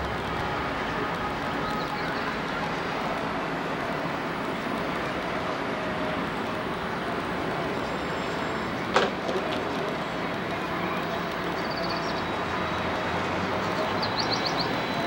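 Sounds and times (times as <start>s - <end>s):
street and traffic noise: 0.0s - 15.0s.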